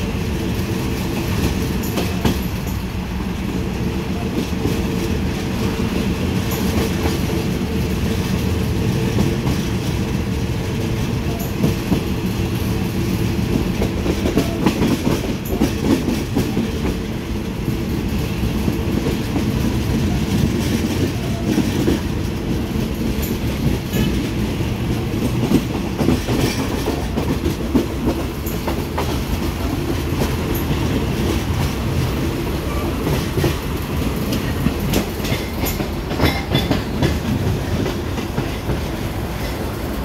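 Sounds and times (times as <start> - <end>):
train rumble from aboard: 0.0 - 40.0
wheels clicking over rail joints: 3.8 - 39.7.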